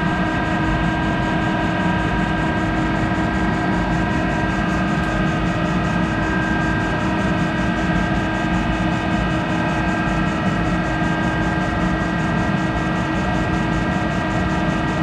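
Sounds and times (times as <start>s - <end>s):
lathe hum and whine: 0.0s - 15.0s.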